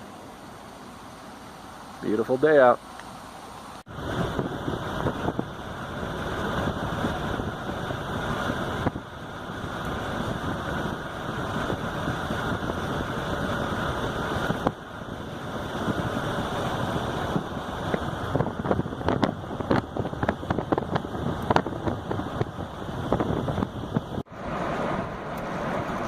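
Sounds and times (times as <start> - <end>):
car road and wind noise: 0.0 - 26.0.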